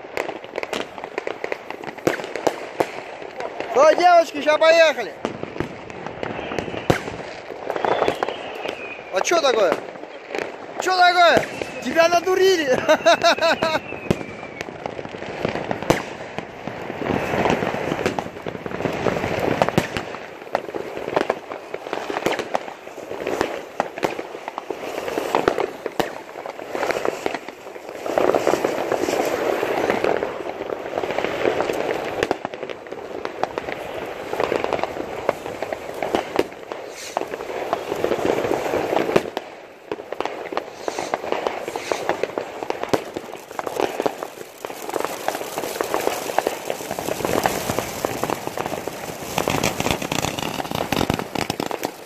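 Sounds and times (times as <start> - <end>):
firework bangs and pops: 0.0 - 52.0
fireworks hissing and crackling: 0.0 - 52.0.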